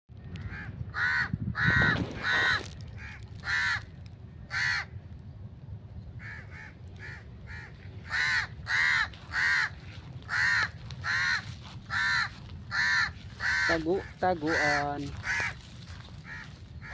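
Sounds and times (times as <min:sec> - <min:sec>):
birds cawing harshly: 0:00.2 - 0:05.0, 0:06.1 - 0:16.9.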